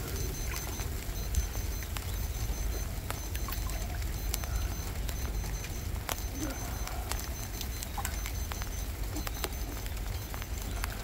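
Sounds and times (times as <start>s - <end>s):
light rain ticks: 0.0s - 11.0s
water trickling and dripping: 0.0s - 11.0s.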